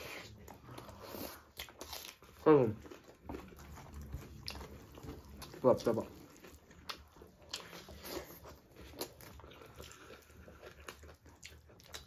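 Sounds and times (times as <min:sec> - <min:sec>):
chewing with lip smacks: 0:00.0 - 0:12.0.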